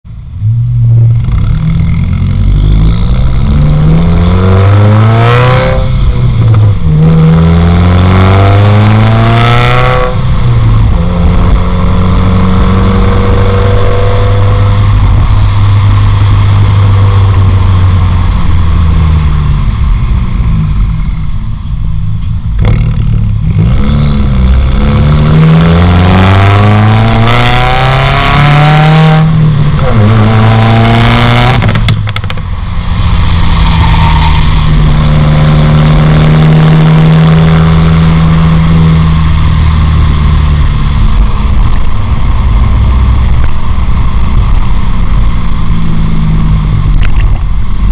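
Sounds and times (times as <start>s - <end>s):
car engine accelerating: 0.1s - 47.9s.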